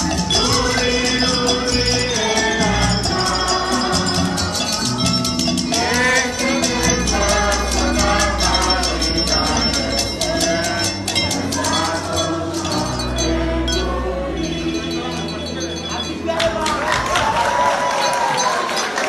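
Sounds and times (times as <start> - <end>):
upbeat latin-style music: 0.0 - 19.0.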